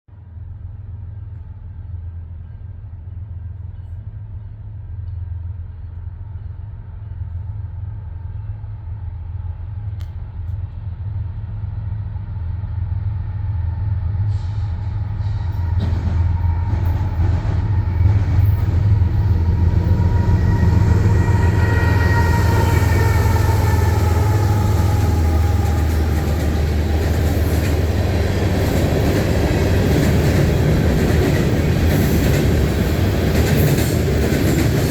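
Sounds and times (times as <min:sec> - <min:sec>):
locomotive engine rumble: 0:00.3 - 0:34.9.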